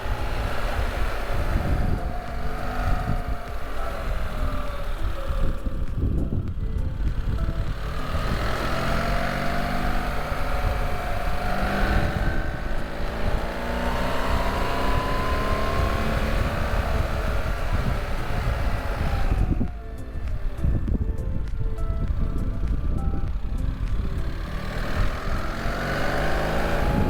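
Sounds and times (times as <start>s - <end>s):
motorcycle engine revving: 0.0s - 27.0s
wind and road noise: 0.0s - 27.0s.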